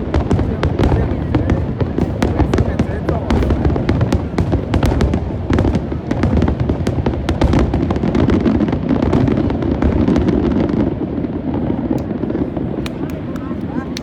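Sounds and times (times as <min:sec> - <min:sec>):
fireworks booming: 0:00.0 - 0:14.0
fireworks cracks and crackles: 0:00.0 - 0:14.0.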